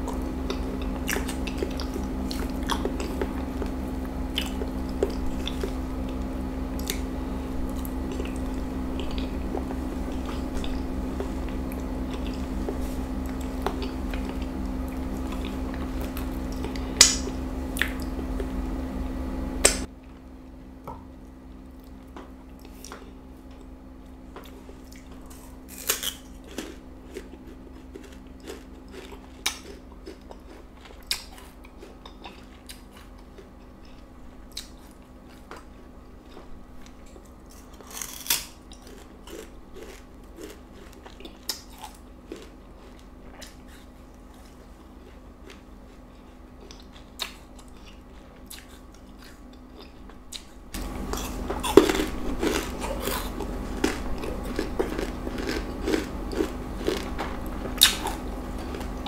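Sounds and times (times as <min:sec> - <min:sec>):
crunchy food chewing: 0:00.0 - 0:19.9, 0:21.5 - 0:59.0.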